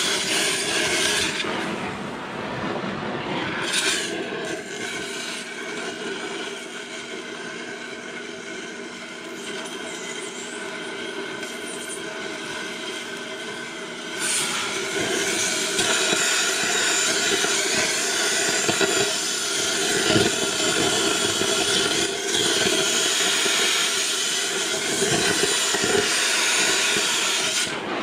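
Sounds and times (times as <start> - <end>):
cutting torch hissing: 0.0 - 2.1, 3.3 - 28.0.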